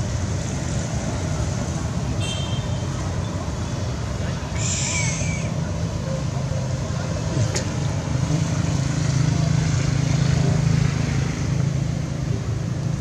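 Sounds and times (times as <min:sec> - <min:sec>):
steady outdoor hum: 0:00.0 - 0:13.0.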